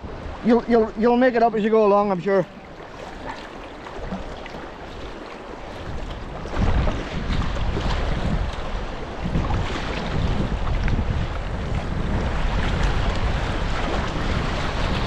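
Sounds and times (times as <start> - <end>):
river water rushing and splashing: 0.0 - 15.0
wind buffeting microphone: 0.0 - 15.0.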